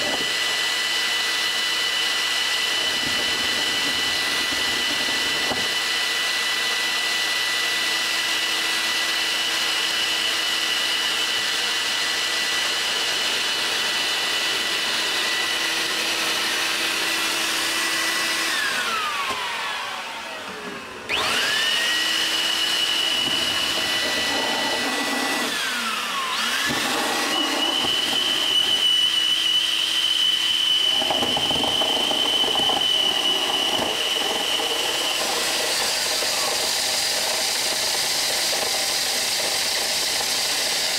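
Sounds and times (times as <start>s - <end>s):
gas turbine whining: 0.0s - 40.9s.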